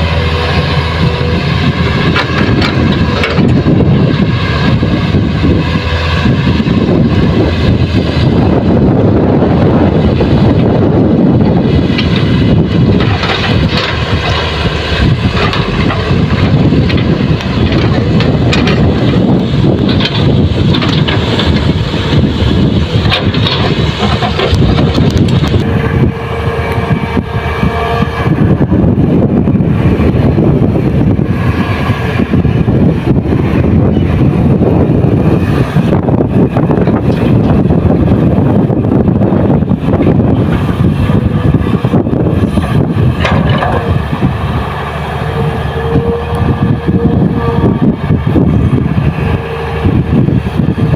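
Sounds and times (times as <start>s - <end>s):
heavy diesel machinery running: 0.0s - 50.9s
wind buffeting microphone: 0.0s - 50.9s.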